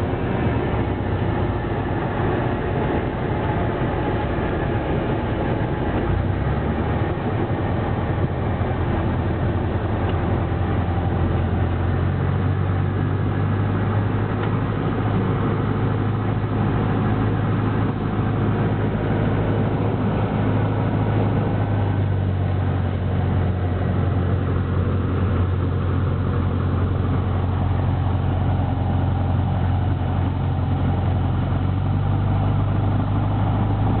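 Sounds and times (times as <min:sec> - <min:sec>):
aircraft piston engine running: 0:00.0 - 0:34.0.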